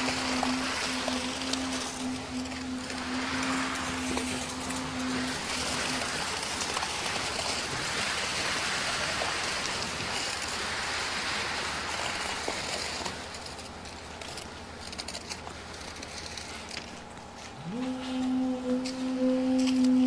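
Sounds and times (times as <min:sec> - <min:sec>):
wet concrete rushing from hose: 0:00.0 - 0:16.9.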